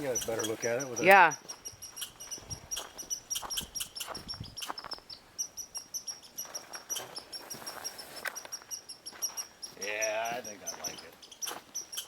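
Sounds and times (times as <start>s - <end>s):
high-pitched chirping: 0.0s - 12.0s.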